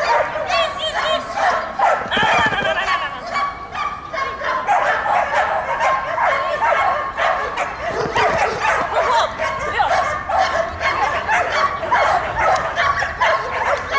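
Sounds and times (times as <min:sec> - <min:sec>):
dog barking and yipping: 0:00.0 - 0:13.9.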